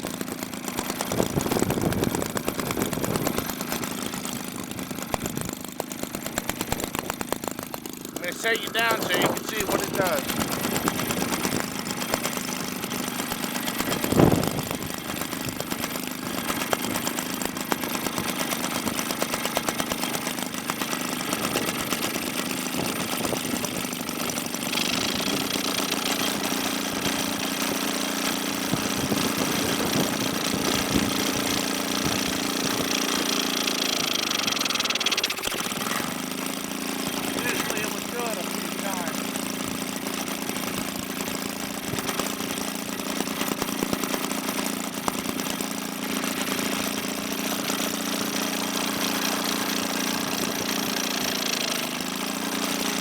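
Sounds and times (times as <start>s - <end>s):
two-stroke engine running: 0.0s - 53.0s.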